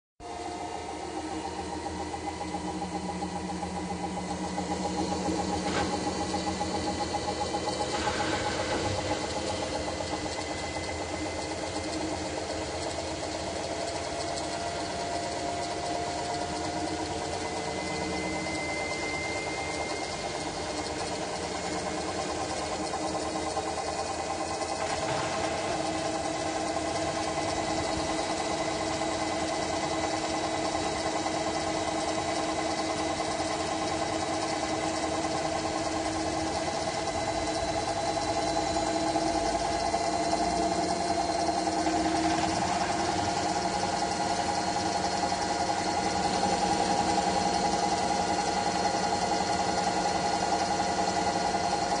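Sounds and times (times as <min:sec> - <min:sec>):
washing machine motor hum: 0:00.2 - 0:52.0.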